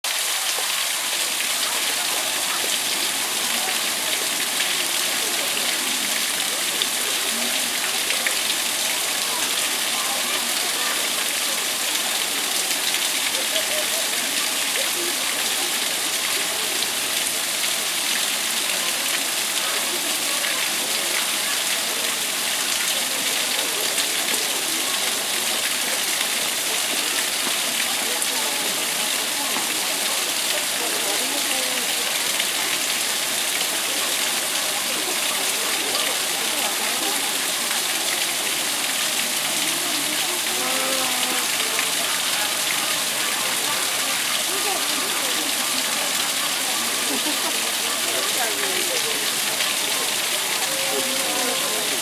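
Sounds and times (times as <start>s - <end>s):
faint voices: 0.0s - 52.0s
rushing water: 0.0s - 52.0s.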